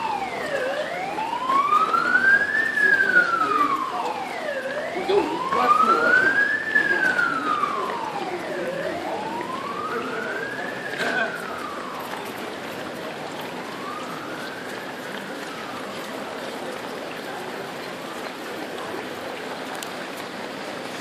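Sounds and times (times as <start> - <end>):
emergency vehicle siren wailing: 0.0 - 21.0.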